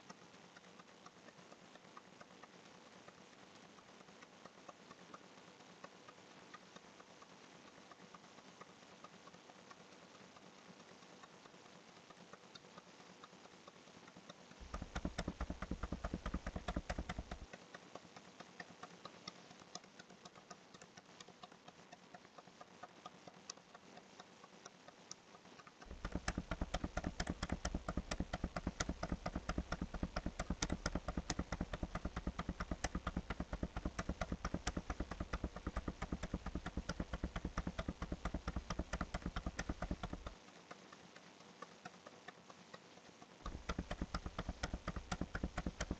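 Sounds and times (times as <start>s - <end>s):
computer mouse scroll clicking: 0.0s - 45.9s.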